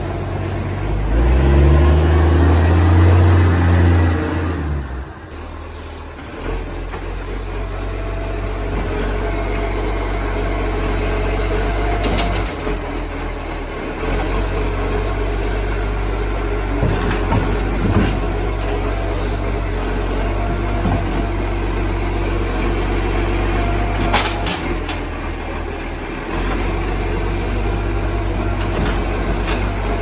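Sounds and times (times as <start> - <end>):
diesel engine idling with exhaust leak: 0.0 - 30.0.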